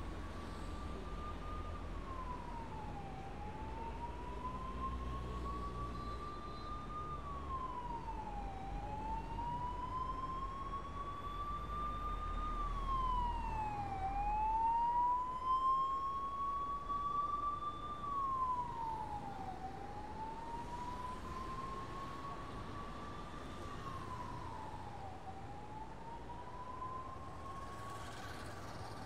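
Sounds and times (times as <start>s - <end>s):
siren wailing: 3.0s - 27.7s.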